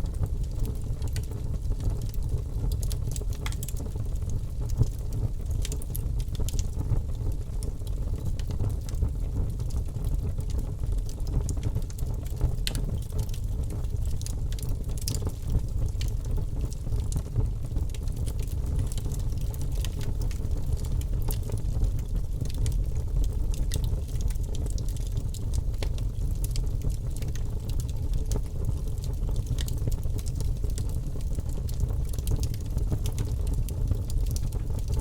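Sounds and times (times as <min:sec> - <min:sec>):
low rumble of flames: 0:00.0 - 0:35.0
logs crackling and popping: 0:00.2 - 0:06.7, 0:11.1 - 0:35.0.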